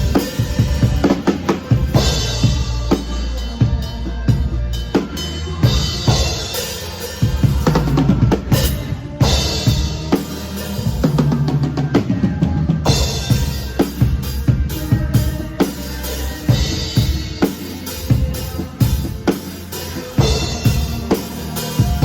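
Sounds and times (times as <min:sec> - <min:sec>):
live band music: 0:00.0 - 0:22.0
low bass line: 0:00.0 - 0:22.0.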